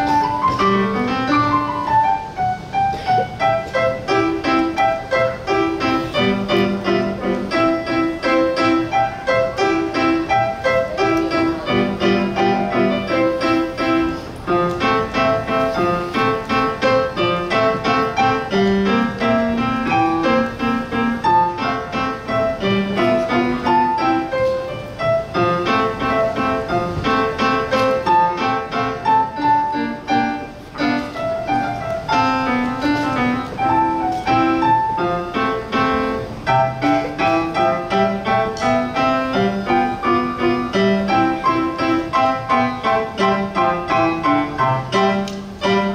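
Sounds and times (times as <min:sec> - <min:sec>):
solo piano piece: 0:00.0 - 0:45.9.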